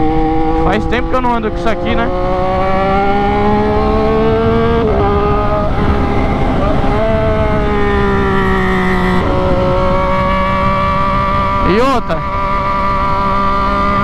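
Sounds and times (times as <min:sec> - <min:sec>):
wind rushing: 0:00.0 - 0:11.8
motorcycle engine revving: 0:00.0 - 0:14.0.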